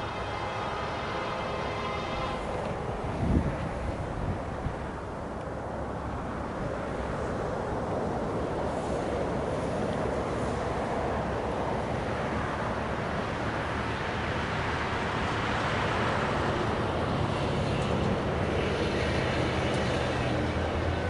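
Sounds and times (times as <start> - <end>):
continuous rushing noise: 0.0 - 21.0
diesel locomotive engine hum: 0.0 - 21.0.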